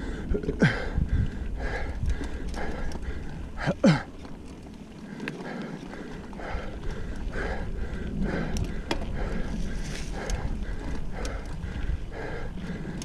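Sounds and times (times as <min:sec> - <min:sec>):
heavy rhythmic panting: 0:00.0 - 0:04.0, 0:05.1 - 0:13.0
low wind: 0:00.0 - 0:13.0
trail rumble: 0:00.0 - 0:13.0.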